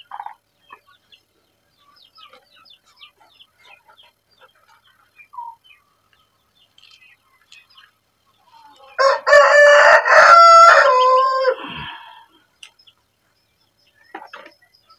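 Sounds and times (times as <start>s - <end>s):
chickens chirping: 0.0s - 14.9s.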